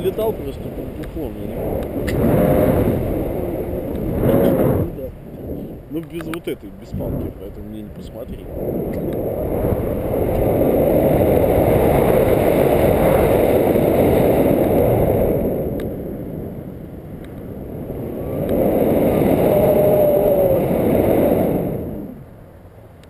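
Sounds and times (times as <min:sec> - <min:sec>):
wind rushing over microphone: 0:00.0 - 0:22.6.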